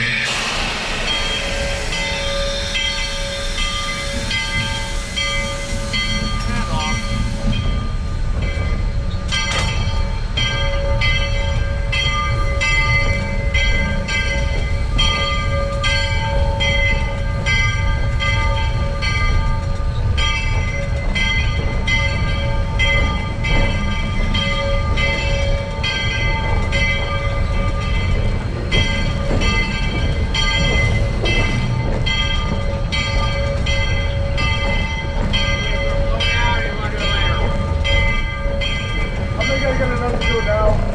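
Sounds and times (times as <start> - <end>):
steam locomotive bell ringing: 0.0 - 40.9
steam locomotive rumble: 0.0 - 40.9.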